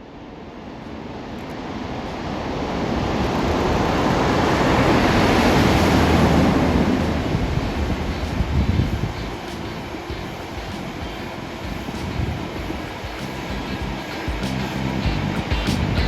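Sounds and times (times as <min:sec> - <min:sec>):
diesel engine drone: 0:00.0 - 0:16.0
rushing noise of passing train: 0:00.0 - 0:16.0.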